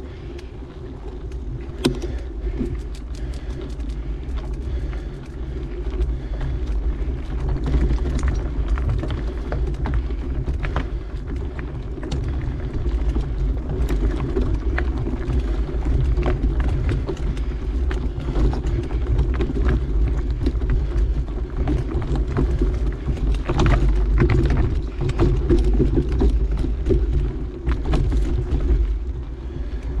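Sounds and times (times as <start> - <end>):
bike clicking and rattling: 0.0 - 30.0
bike tyre and wind rumble: 0.0 - 30.0.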